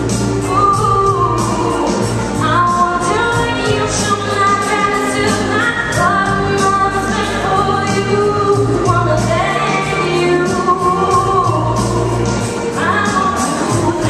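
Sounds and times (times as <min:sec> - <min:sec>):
musical accompaniment with beat: 0:00.0 - 0:14.0
woman singing into microphone: 0:00.0 - 0:14.0.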